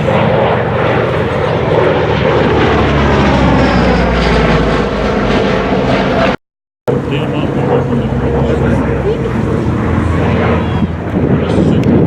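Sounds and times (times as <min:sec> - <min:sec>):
airplane engine flying past: 0:00.0 - 0:12.0.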